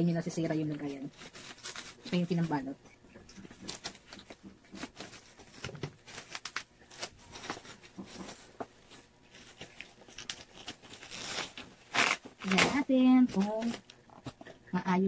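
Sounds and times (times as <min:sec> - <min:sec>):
bubble wrap crinkling and crackling: 0:00.2 - 0:14.6.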